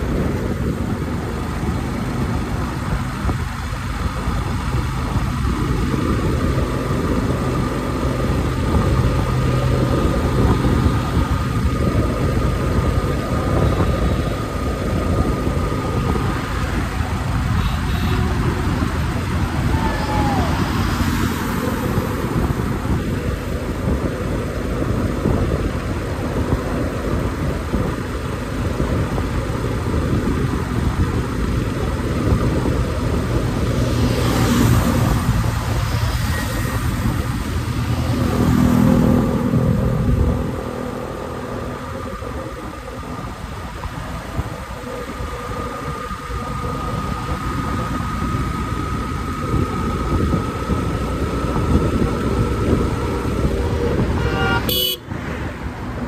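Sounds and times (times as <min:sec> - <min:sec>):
motorcycle engine: 0:00.0 - 0:56.0
road noise: 0:00.0 - 0:56.0
wind rushing over microphone: 0:00.0 - 0:56.0.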